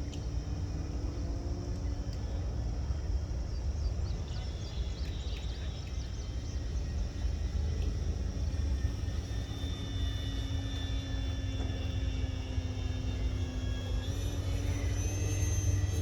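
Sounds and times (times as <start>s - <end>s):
distant model airplane motor drone: 0.0s - 16.0s.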